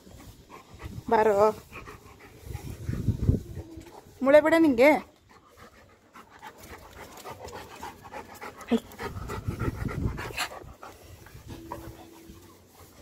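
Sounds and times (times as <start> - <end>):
dog panting: 0.0 - 4.2, 4.9 - 13.0.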